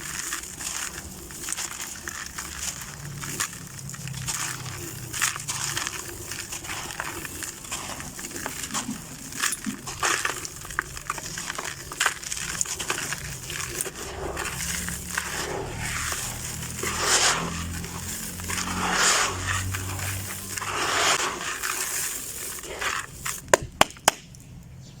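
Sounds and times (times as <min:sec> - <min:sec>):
gritty grains crunching by hand: 0:00.0 - 0:24.6.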